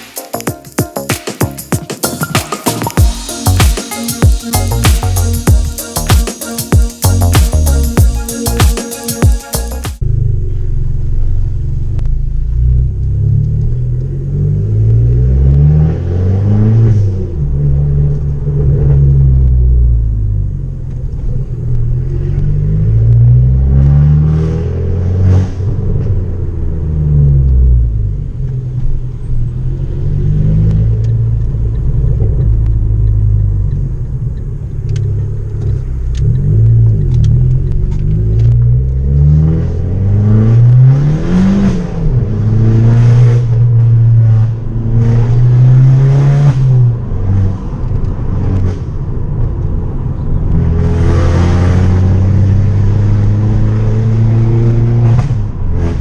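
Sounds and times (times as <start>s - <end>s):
car engine revving: 10.0s - 56.0s.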